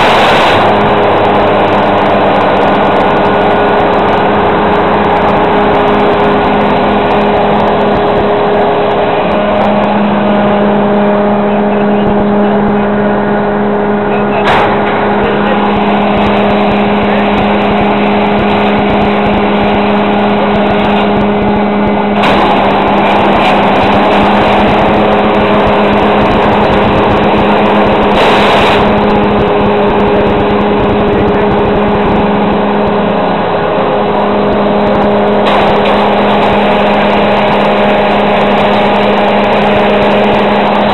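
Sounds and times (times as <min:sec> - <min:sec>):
tractor and harvester droning: 0:00.0 - 0:40.9.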